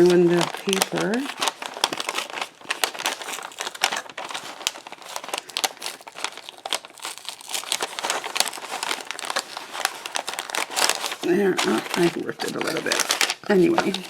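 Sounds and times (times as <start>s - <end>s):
wrapping paper crinkling: 0.0s - 14.0s.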